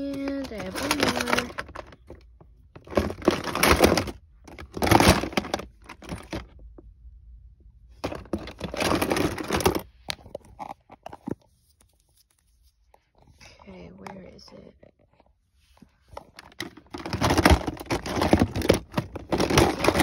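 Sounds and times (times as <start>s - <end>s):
rustling and clattering of toys: 0.0s - 6.9s, 7.8s - 20.0s.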